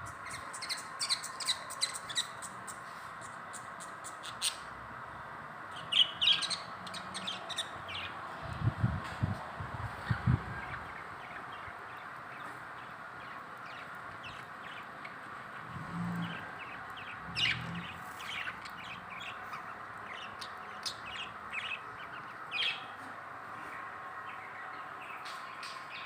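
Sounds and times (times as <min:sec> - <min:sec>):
pet birds chirping and chattering: 0:00.0 - 0:04.7, 0:05.7 - 0:26.0.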